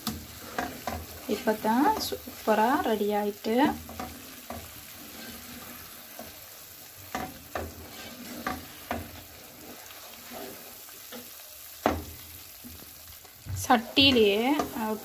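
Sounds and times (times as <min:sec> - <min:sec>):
low hiss of cooking: 0:00.0 - 0:15.0
wooden spoon scraping a pan: 0:00.0 - 0:15.0.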